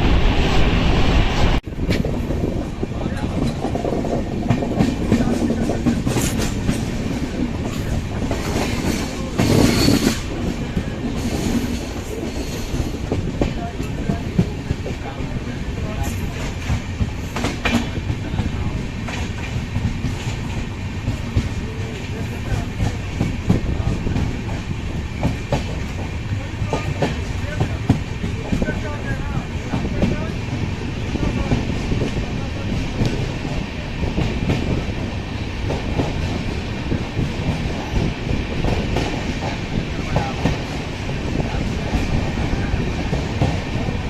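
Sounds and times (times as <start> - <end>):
train rumbling at speed: 0.0 - 44.0
sharp train clatters: 1.4 - 44.0.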